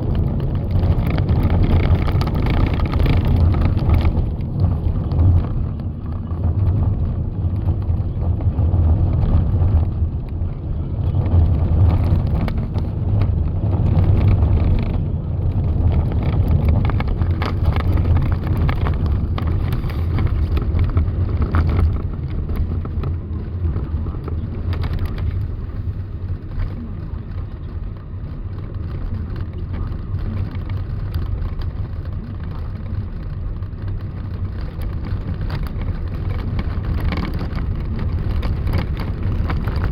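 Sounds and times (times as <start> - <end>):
motor vehicle rumbling: 0.0 - 39.9
wind noise on microphone: 0.0 - 39.9.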